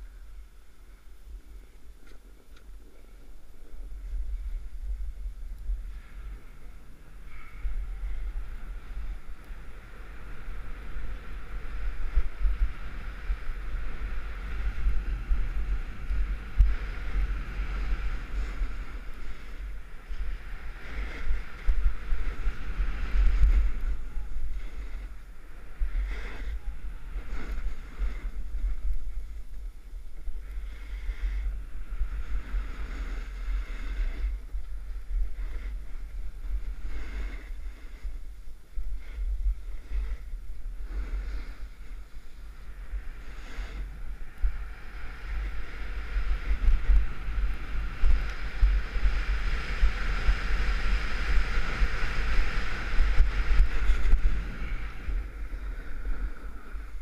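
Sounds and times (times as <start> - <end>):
wind buffeting microphone: 0.0 - 57.0
skis scraping on snow: 8.5 - 57.0.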